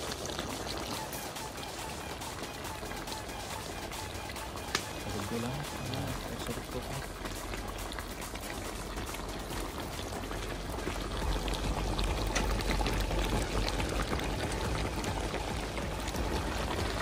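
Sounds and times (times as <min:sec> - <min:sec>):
stew bubbling and spitting: 0:00.0 - 0:17.0.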